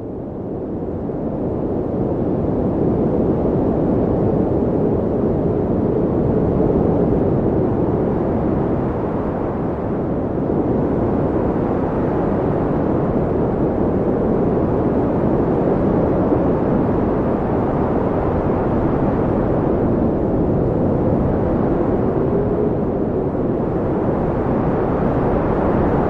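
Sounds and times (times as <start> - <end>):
blizzard wind rushing: 0.0 - 26.0
howling wind whistle: 1.0 - 26.0.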